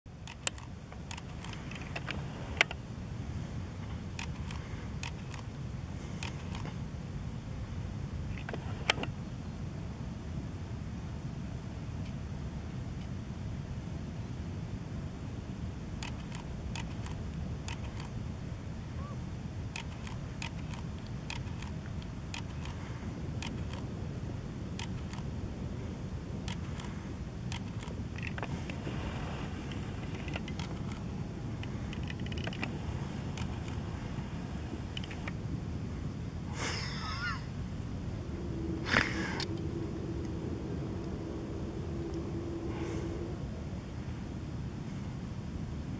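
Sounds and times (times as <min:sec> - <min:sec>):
steady low rumble: 0:00.1 - 0:45.9.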